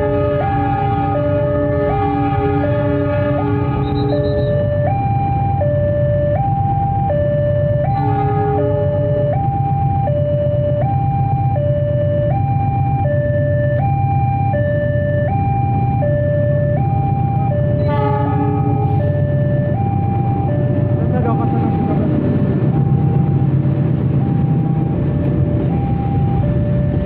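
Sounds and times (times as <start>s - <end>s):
diesel freight train rumbling: 0.0s - 27.0s
two-tone electronic warning alarm: 0.0s - 27.0s.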